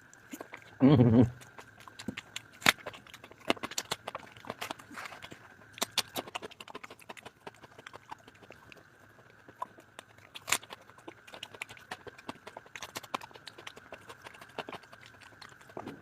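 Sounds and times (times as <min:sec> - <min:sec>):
wet chewing smacks and clicks: 0:00.0 - 0:16.0.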